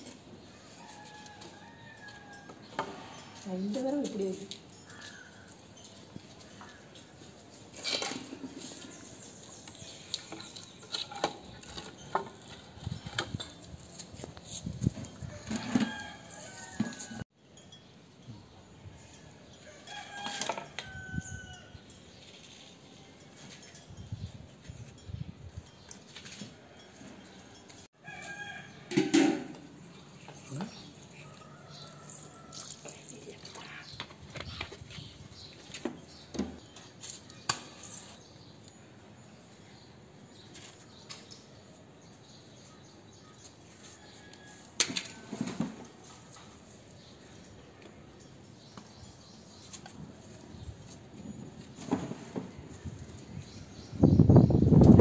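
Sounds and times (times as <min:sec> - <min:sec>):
faint outdoor background: 0:00.0 - 0:55.0.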